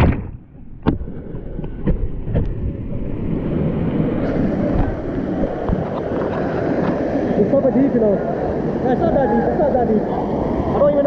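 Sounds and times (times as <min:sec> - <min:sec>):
muffled rushing water: 0:00.1 - 0:11.0.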